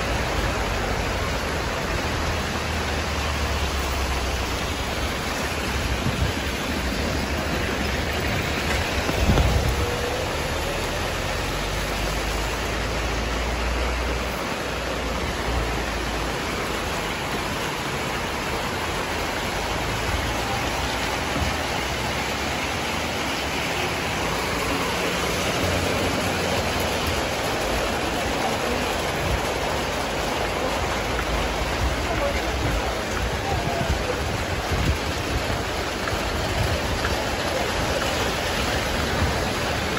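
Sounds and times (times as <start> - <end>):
rain on a wet street: 0.0 - 39.9
water running through a drain: 0.0 - 39.9.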